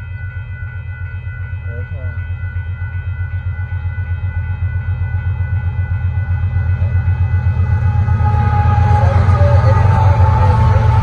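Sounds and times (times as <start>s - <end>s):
diesel train rumble: 0.0s - 11.0s
railroad crossing bell ringing: 0.0s - 11.0s.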